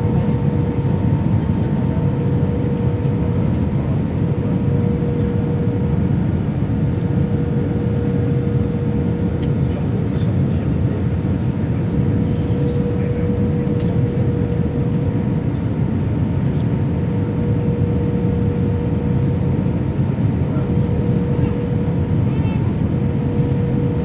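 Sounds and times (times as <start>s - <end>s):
constant cabin hum: 0.0s - 24.0s
jet engine and airflow roar: 0.0s - 24.0s.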